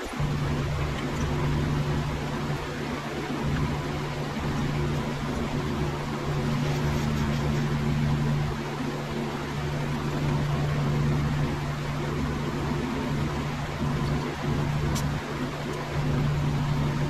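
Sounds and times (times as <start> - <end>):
milking machine humming: 0.0 - 17.0.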